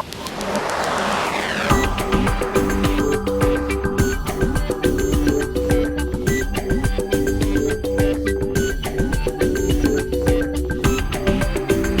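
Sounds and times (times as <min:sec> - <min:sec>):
upbeat background music: 0:01.4 - 0:12.0.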